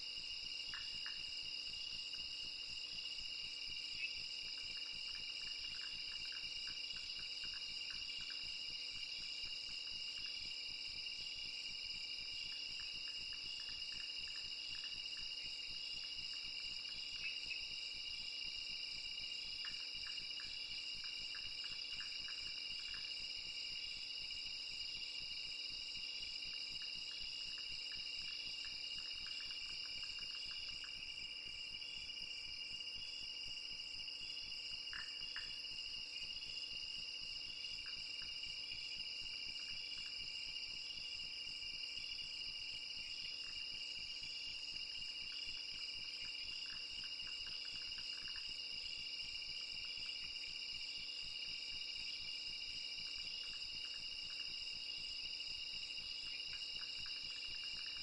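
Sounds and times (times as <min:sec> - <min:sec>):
crickets trilling chorus: 0:00.0 - 0:58.0.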